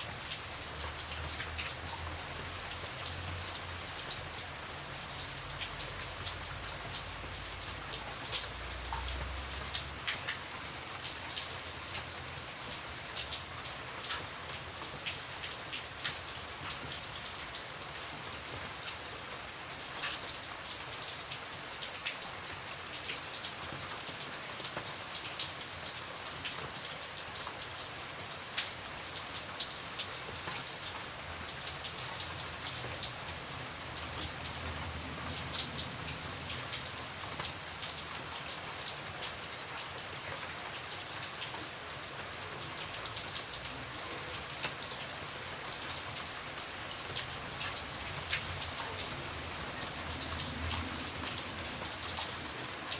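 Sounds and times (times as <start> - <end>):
light rain pattering: 0.0 - 52.9.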